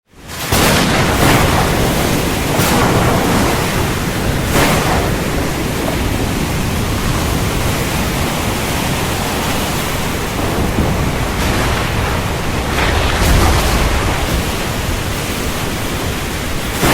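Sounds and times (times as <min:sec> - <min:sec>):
heavy rain pouring: 0:00.1 - 0:16.9.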